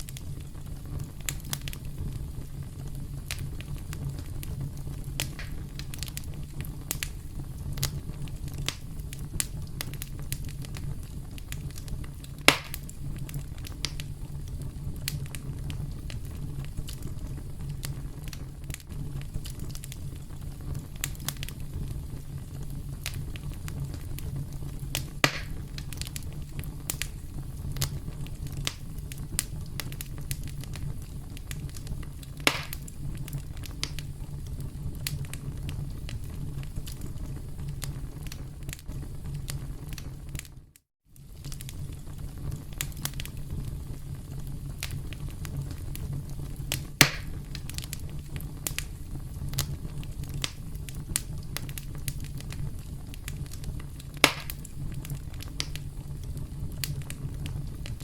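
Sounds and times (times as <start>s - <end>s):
campfire crackling: 0.0s - 58.0s
loud fire pops: 0.0s - 58.0s.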